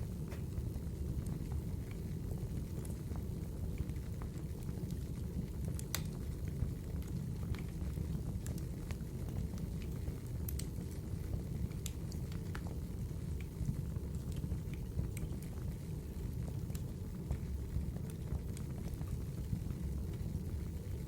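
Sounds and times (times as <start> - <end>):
fire crackles and pops: 0.0 - 21.0
low rumble of fire flames: 0.0 - 21.0.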